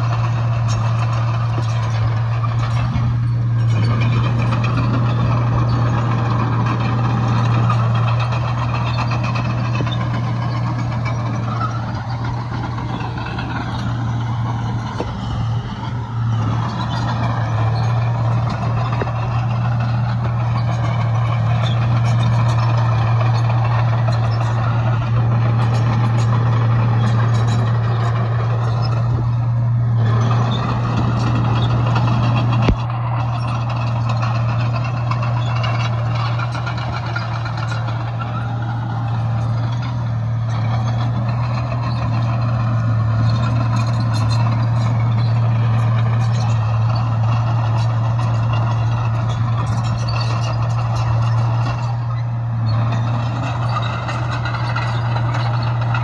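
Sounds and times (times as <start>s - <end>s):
heavy diesel machinery droning: 0.0s - 56.0s.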